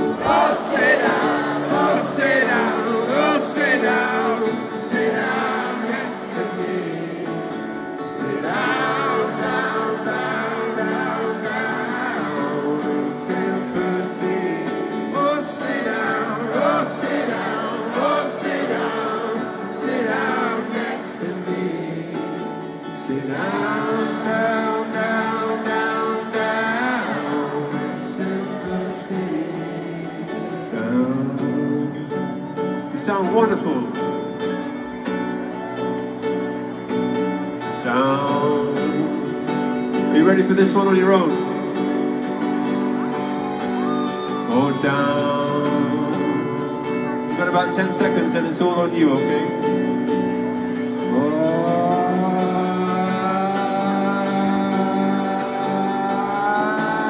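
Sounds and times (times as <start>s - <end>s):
person singing: 0.0s - 32.5s, 37.6s - 48.1s, 50.8s - 57.0s
crowd singing along: 0.0s - 32.6s, 34.6s - 48.6s, 49.7s - 57.0s
acoustic guitar: 0.0s - 57.0s.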